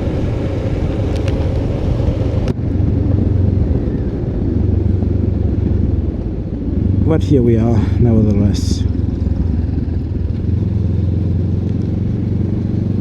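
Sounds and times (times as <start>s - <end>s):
motorcycle engine running: 0.0s - 13.0s
road noise hiss: 0.0s - 13.0s.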